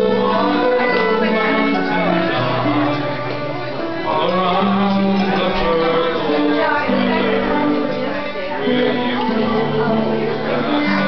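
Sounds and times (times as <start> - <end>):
acoustic ensemble music: 0.0 - 11.0.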